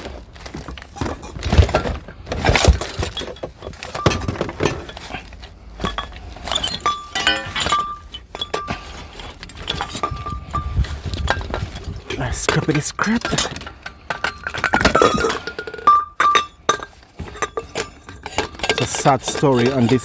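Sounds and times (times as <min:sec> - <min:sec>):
glass bulbs clinking: 0:01.0 - 0:20.0.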